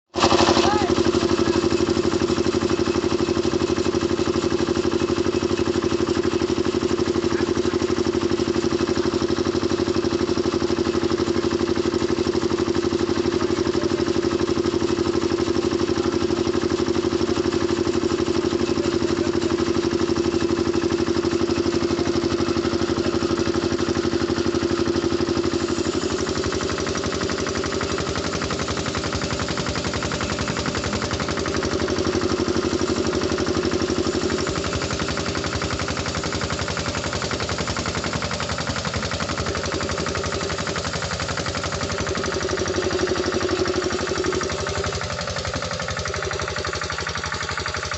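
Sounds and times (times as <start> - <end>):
sawmill machinery humming: 0.1 - 47.9.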